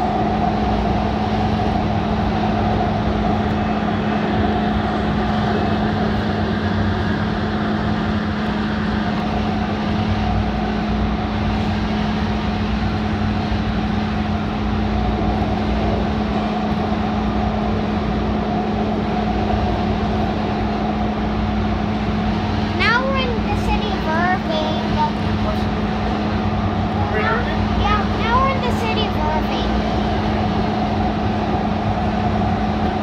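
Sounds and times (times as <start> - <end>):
steady hum: 0.0 - 33.0
train wheels rumbling on rail: 0.0 - 33.0.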